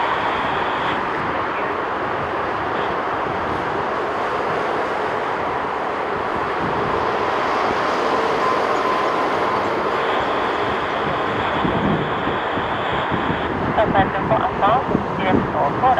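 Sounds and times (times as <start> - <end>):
faint engine whine: 0.0 - 15.9
jet engines rushing: 0.0 - 15.9.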